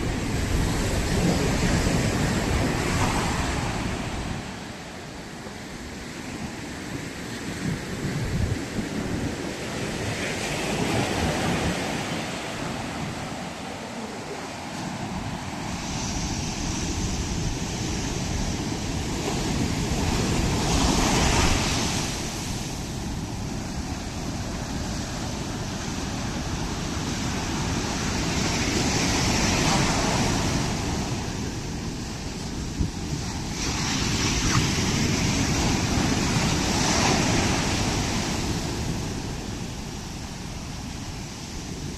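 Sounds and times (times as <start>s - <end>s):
ocean surf washing up beach: 0.0s - 41.9s
wind buffeting microphone: 0.0s - 41.9s.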